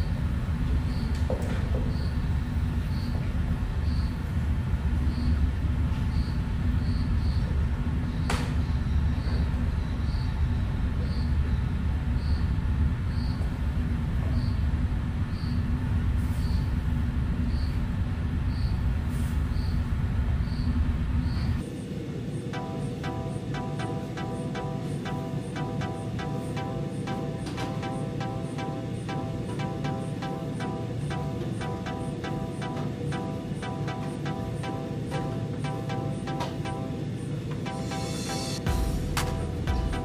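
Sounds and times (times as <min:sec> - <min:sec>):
low mechanical rumble: 0:00.0 - 0:35.8, 0:38.6 - 0:40.0.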